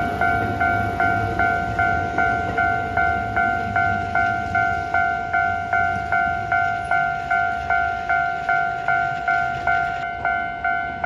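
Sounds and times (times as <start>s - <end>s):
level crossing warning bell: 0.0s - 11.0s
low train rumble: 0.0s - 11.0s.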